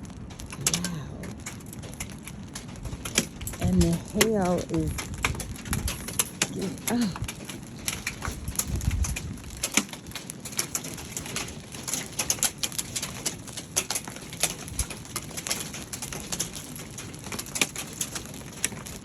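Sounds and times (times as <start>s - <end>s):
hail on a metal roof: 0.0s - 19.0s.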